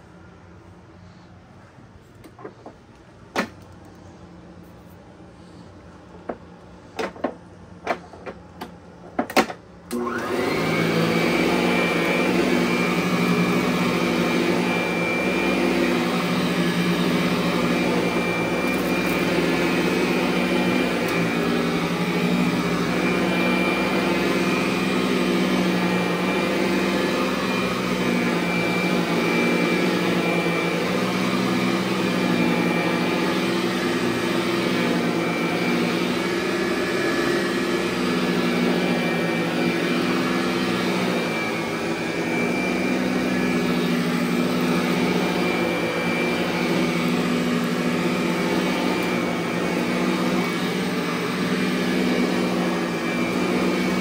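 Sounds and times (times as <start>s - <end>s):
vacuum cleaner motor whine: 9.2s - 54.0s.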